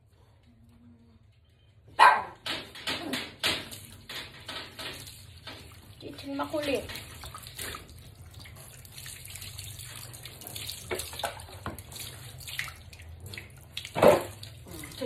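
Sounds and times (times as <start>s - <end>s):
water pouring and splashing: 2.7s - 15.0s.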